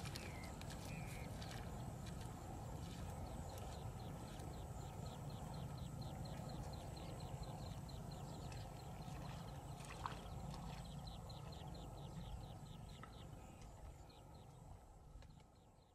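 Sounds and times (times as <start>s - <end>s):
low wind rumble: 0.0s - 15.8s.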